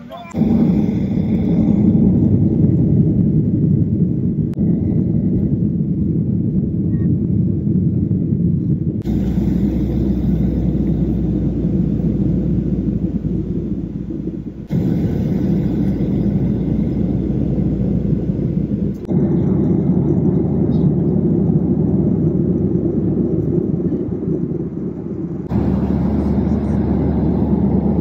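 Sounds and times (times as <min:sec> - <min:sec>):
jet engines rumbling in cabin: 0:00.0 - 0:28.0.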